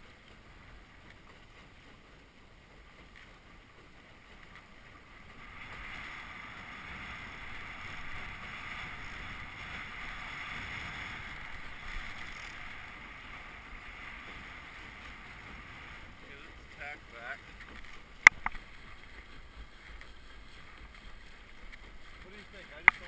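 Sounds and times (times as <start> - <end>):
water rushing along boat hull: 0.0 - 23.0.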